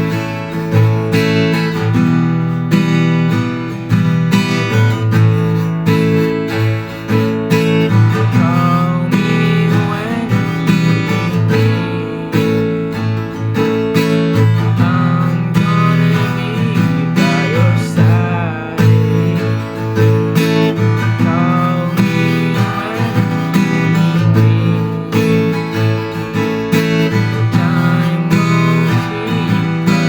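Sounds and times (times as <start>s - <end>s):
song with strummed acoustic guitar: 0.0s - 30.0s.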